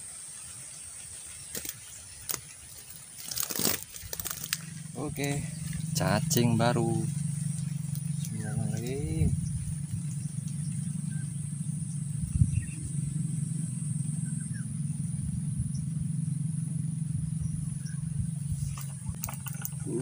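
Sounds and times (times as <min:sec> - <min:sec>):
low mechanical hum: 0:00.0 - 0:20.0
high whine: 0:03.4 - 0:20.0.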